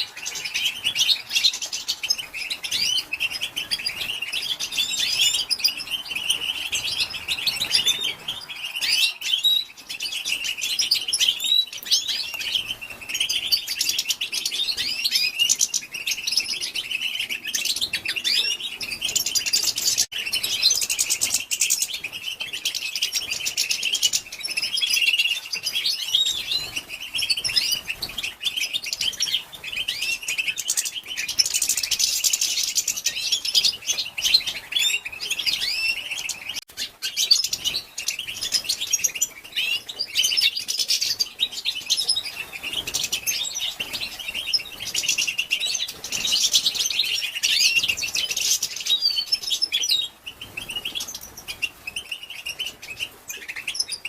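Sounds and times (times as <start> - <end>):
goldfinch twittering: 0.0 - 54.0.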